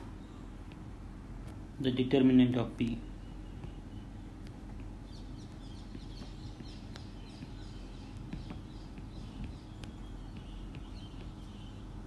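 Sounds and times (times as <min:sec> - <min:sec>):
small birds chirping: 0:00.0 - 0:00.9, 0:01.9 - 0:12.0
low steady hum: 0:00.0 - 0:12.0.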